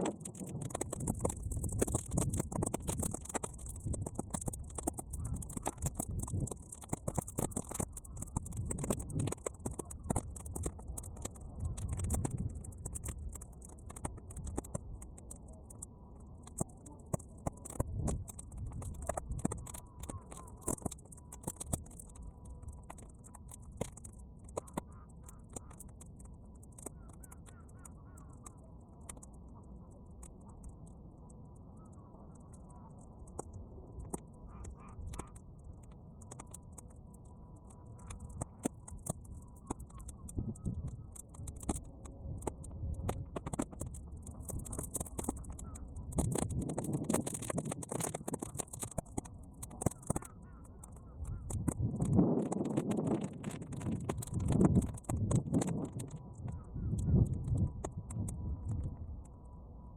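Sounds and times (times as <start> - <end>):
bonfire crackling and popping: 0.0 - 59.4
wind rumble on microphone: 0.0 - 59.9.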